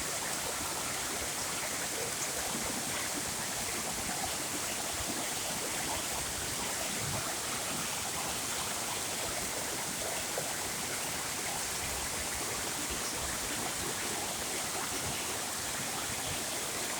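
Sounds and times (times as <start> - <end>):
waterfall pouring and splashing: 0.0 - 16.9.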